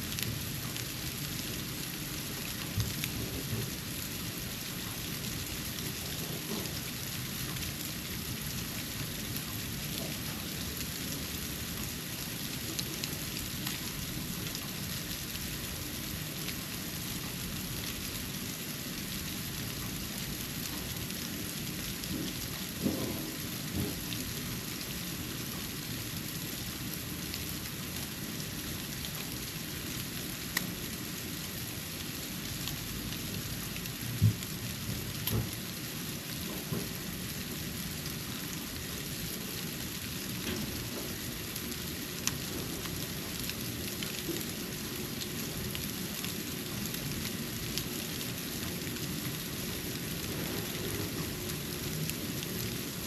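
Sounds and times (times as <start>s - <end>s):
snow falling hiss: 0.0s - 53.0s.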